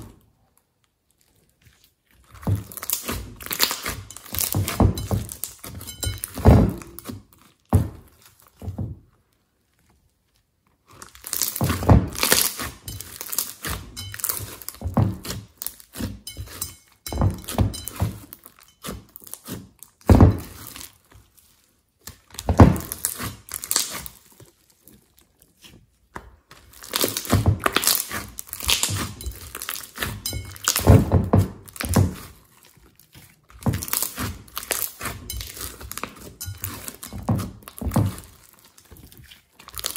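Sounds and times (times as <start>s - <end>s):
slime squelching: 0.0s - 8.6s, 9.2s - 39.9s.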